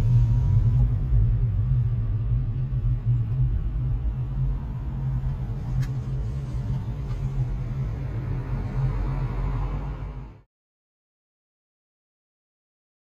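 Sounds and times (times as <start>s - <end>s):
car engine and road noise: 0.0s - 10.5s.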